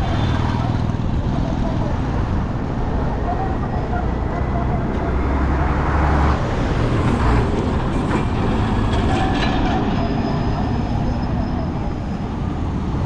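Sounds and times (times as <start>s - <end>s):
large vehicle deep rumble: 0.0s - 13.0s
vehicles passing: 0.0s - 13.0s.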